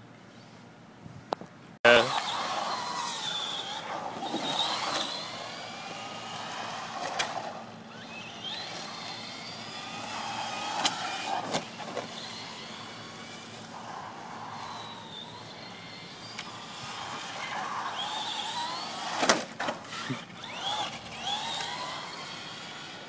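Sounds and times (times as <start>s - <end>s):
toy car motor whining: 1.9s - 23.0s.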